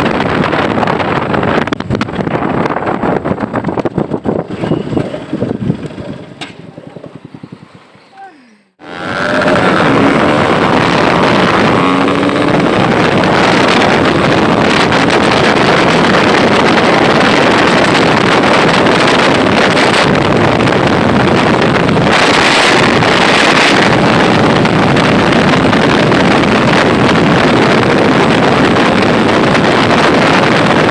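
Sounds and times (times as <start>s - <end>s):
motorcycle engine drone: 0.0s - 30.9s
wind rushing on microphone: 0.0s - 30.9s.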